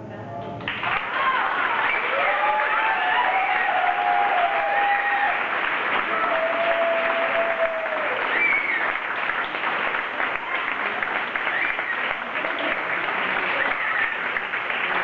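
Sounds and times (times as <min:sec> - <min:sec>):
audience applauding: 0:00.7 - 0:15.0
people cheering: 0:00.7 - 0:15.0.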